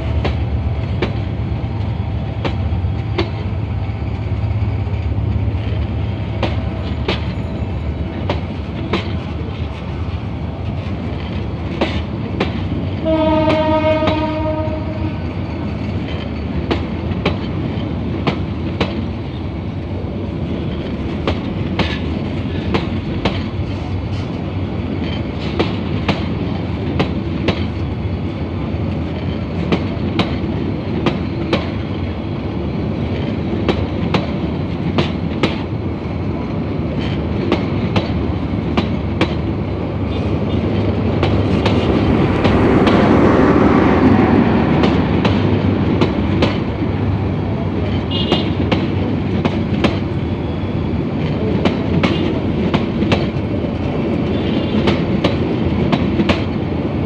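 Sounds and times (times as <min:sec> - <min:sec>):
wheels clacking over rail joints: 0:00.0 - 0:14.8, 0:20.5 - 0:32.2, 0:32.8 - 0:56.8
train coaches rumbling past: 0:00.0 - 0:57.0.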